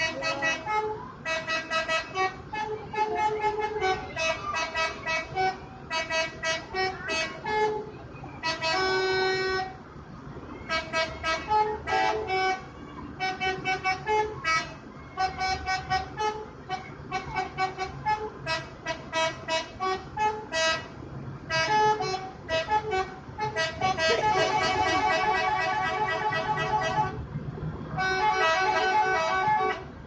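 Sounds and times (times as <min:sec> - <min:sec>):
multi-tone bus horn tune: 0:00.0 - 0:30.0.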